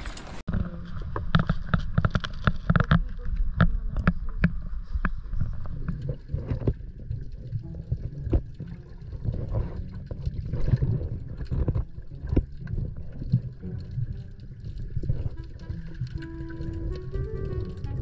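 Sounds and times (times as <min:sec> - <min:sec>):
muffled underwater rumble: 0:00.4 - 0:18.0
gurgling bubble bursts: 0:02.7 - 0:18.0.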